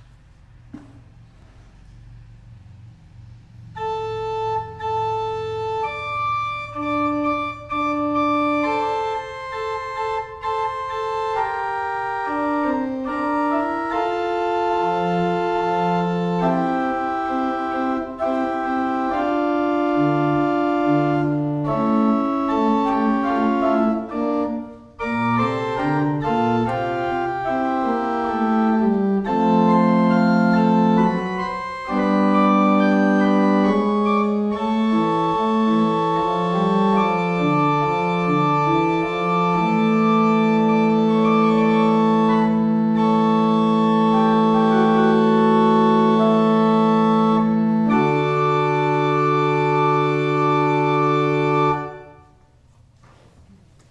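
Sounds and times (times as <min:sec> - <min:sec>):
pipe organ playing: 0:03.6 - 0:52.4.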